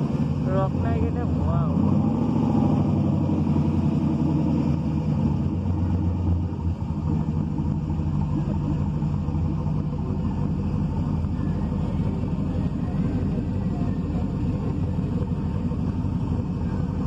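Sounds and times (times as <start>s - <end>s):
truck engine at low revs: 0.0s - 17.0s.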